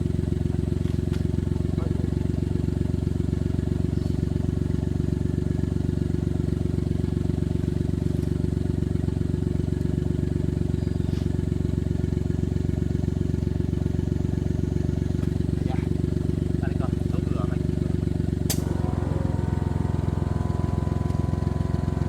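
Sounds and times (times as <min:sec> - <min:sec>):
small engine running steadily: 0:00.0 - 0:22.0.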